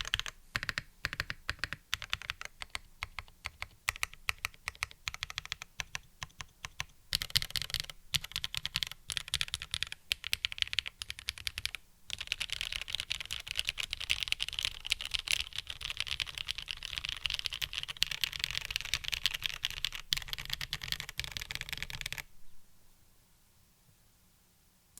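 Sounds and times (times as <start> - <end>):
typing on mechanical keyboard: 0.0 - 22.3.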